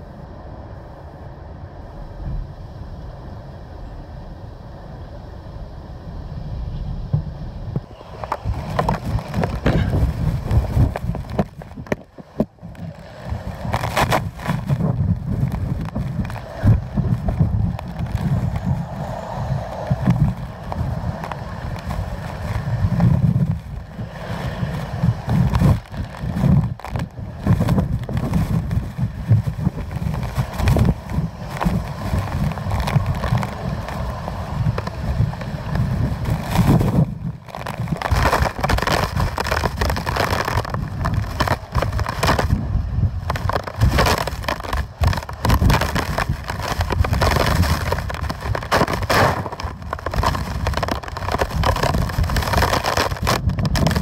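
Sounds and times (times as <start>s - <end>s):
rushing noise: 0.0s - 54.0s
wind gusting against microphone: 0.0s - 54.0s.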